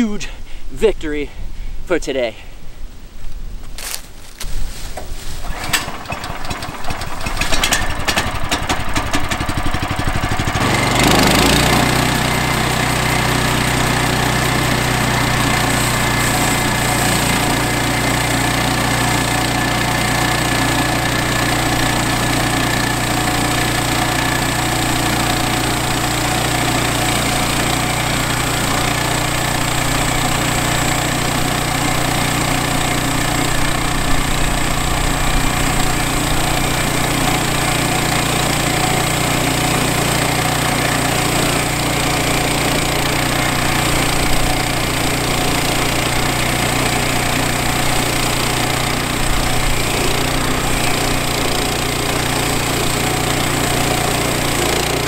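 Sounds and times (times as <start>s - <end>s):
small gasoline engine starting: 5.2s - 55.0s
engine clattering: 5.4s - 55.0s
engine idling: 5.4s - 55.0s.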